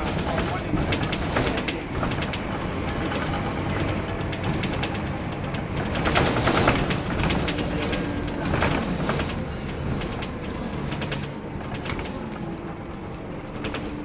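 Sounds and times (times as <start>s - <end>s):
bus engine rumble: 0.0s - 14.0s
rattling and clicking: 0.0s - 14.0s.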